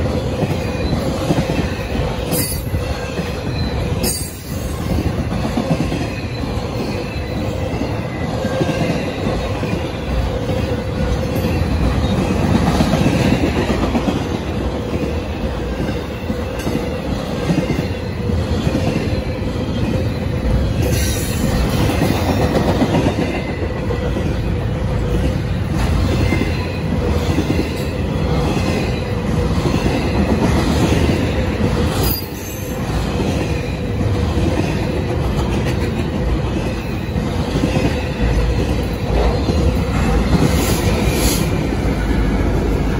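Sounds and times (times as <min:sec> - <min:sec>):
diesel locomotives rumbling: 0:00.0 - 0:42.9
freight train rumbling past: 0:00.0 - 0:42.9.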